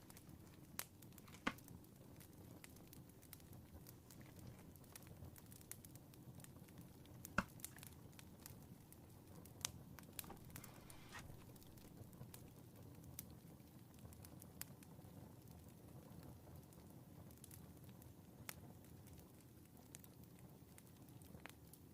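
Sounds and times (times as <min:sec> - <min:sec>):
fire crackling: 0:00.0 - 0:21.9.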